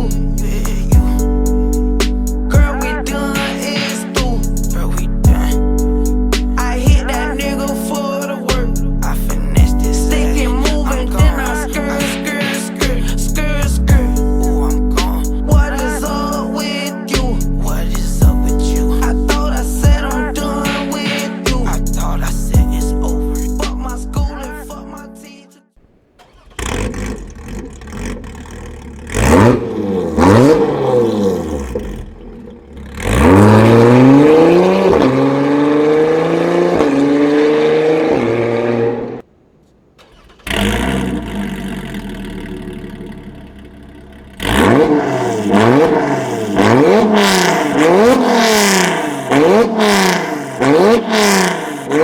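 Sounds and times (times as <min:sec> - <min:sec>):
car engine revving: 0:00.0 - 0:08.0, 0:09.0 - 0:16.6, 0:25.8 - 0:52.0.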